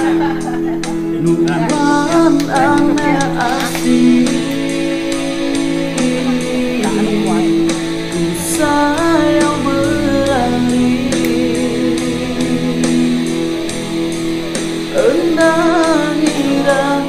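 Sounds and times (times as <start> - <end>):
guitar accompaniment: 0.0 - 17.0
person singing: 0.0 - 17.0.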